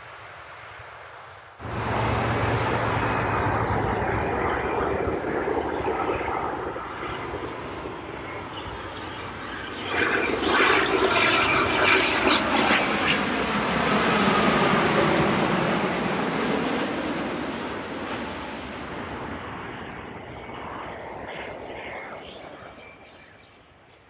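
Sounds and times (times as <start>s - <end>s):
jet engines rumbling: 1.6s - 23.4s.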